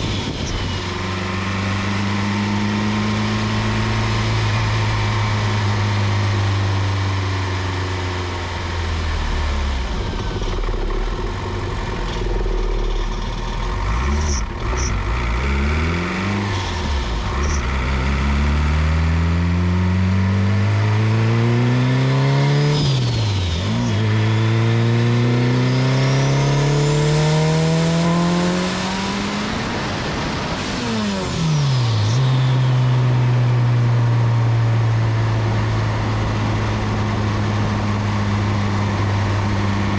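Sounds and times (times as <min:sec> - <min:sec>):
car engine revving through gears: 0:00.0 - 0:39.9.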